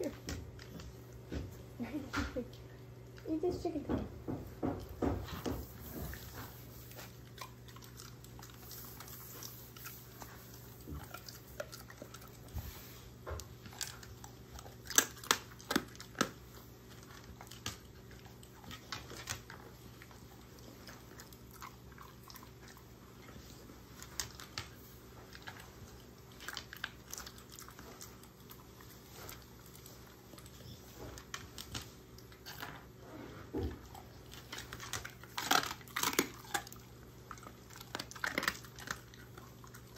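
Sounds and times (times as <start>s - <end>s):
faint low hum: 0.0s - 39.9s
dog crunching treats: 5.3s - 32.9s, 33.8s - 39.9s.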